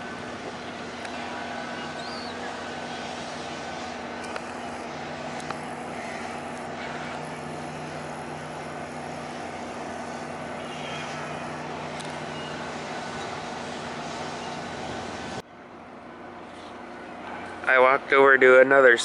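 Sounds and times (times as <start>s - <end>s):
boat diesel engines humming: 0.0s - 19.0s.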